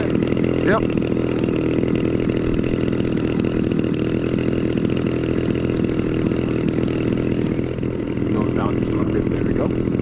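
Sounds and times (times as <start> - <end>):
model airplane engine running: 0.0 - 10.0.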